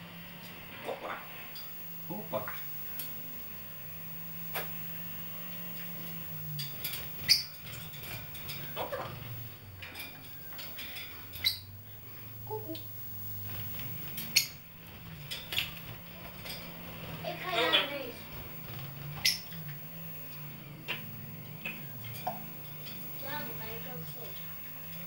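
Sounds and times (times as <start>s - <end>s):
low background hum: 0.0s - 25.0s
parrots chirping: 0.0s - 25.0s
parrots clicking: 0.9s - 25.0s.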